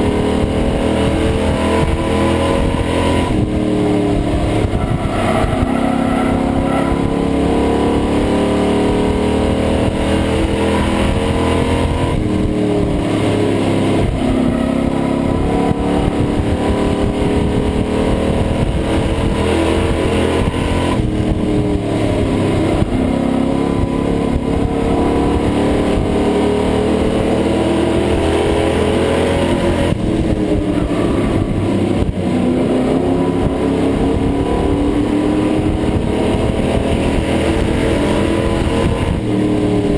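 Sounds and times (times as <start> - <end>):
truck engine at racing speed: 0.0 - 39.9.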